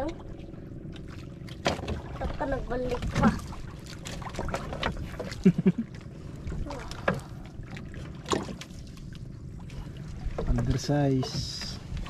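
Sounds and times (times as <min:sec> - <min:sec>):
wind and water wash: 0:00.0 - 0:12.0.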